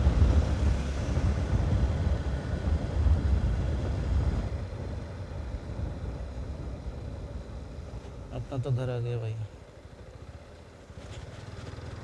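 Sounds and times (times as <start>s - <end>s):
motorcycle engine rumble: 0.0s - 8.5s, 9.5s - 12.0s
road noise: 0.0s - 12.0s.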